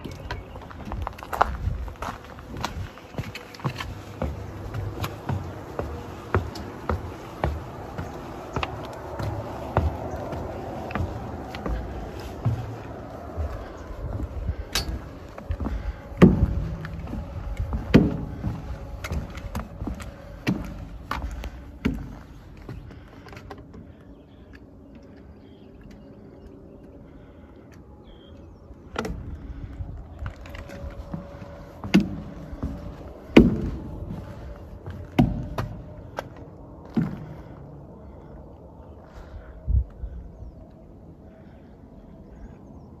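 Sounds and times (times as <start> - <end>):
wind rumble on microphone: 0.0 - 23.1, 28.4 - 43.0
footsteps on footbridge: 0.0 - 38.3.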